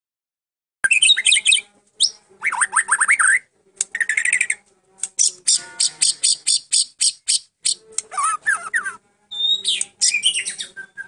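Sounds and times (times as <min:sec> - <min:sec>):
bird singing varied song: 0:00.8 - 0:11.0.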